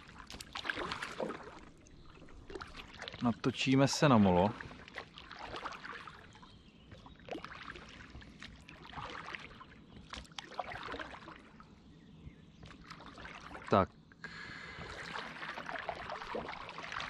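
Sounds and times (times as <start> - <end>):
light splashes: 0.0 - 11.8, 12.6 - 17.0
water lapping against boat hull: 0.0 - 17.0.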